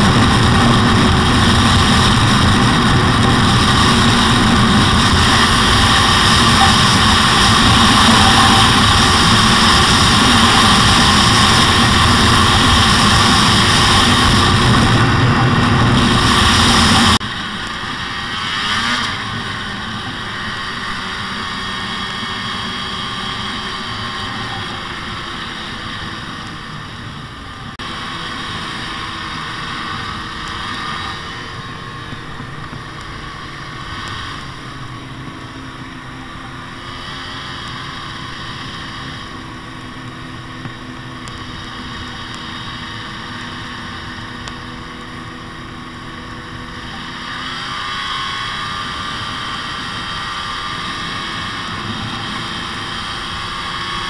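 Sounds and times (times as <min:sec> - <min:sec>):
snowmobile engines running: 0:00.0 - 0:54.0
snowmobile track rushing noise: 0:00.0 - 0:54.0.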